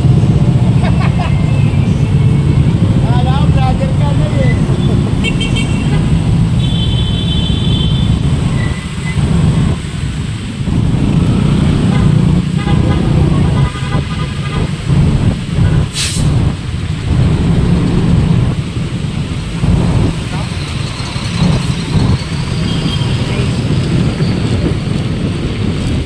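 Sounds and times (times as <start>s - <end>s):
motorcycle and truck engines rumbling: 0.0s - 26.0s.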